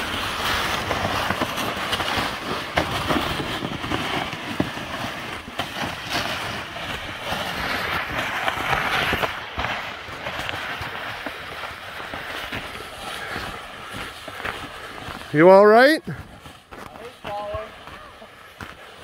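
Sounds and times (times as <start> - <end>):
sled dragged over snow: 0.0 - 19.0.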